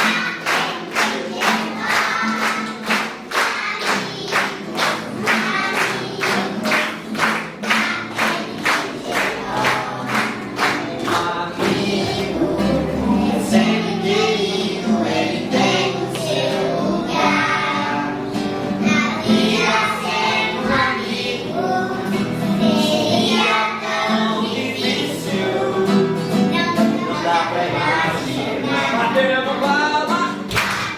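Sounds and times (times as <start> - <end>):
backing music: 0.0 - 30.9
children singing together: 0.0 - 30.9.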